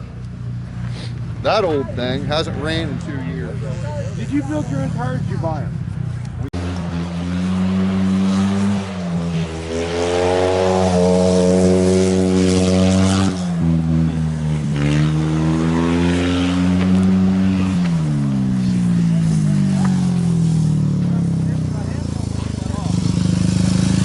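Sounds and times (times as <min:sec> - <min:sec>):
motorcycle engines racing: 0:00.0 - 0:24.0.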